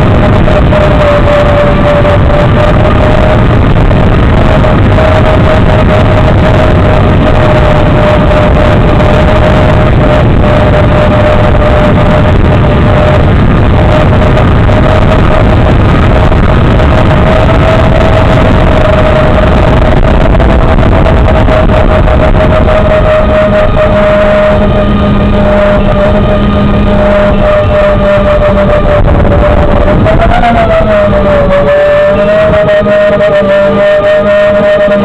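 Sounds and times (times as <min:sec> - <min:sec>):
drone motors whining: 0:00.0 - 0:35.0
rough distorted noise: 0:00.0 - 0:35.0.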